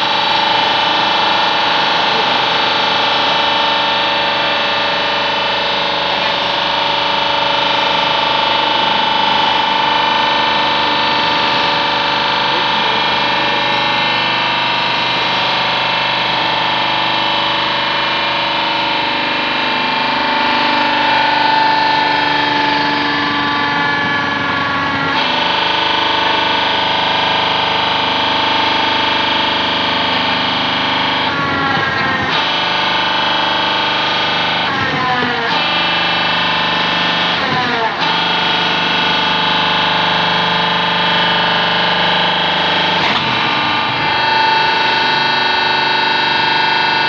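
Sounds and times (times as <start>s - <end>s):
distorted electric guitar: 0.0s - 47.0s.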